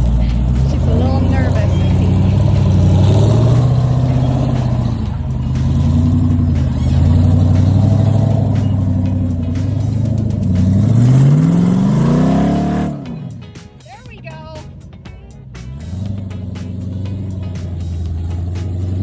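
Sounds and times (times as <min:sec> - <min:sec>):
engine working under load: 0:00.0 - 0:13.8, 0:14.7 - 0:19.0.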